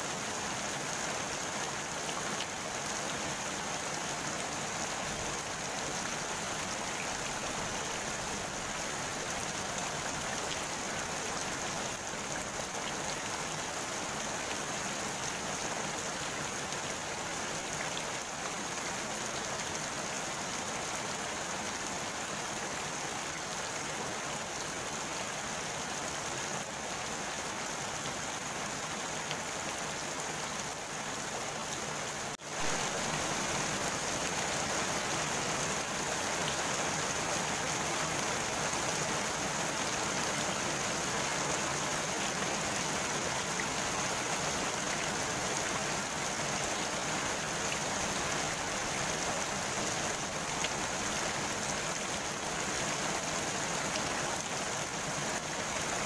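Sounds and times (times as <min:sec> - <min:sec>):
rain falling on pond: 0:00.0 - 0:56.0.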